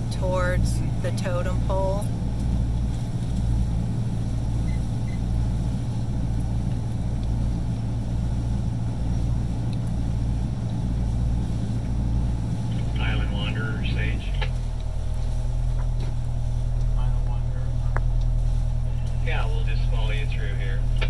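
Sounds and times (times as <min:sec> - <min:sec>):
motorboat engine drone: 0:00.0 - 0:21.0.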